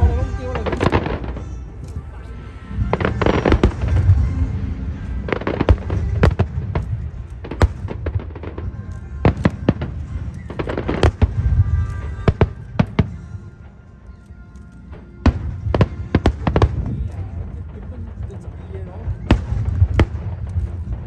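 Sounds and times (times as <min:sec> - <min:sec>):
fireworks bursting: 0:00.0 - 0:21.0
music over loudspeakers: 0:00.0 - 0:21.0.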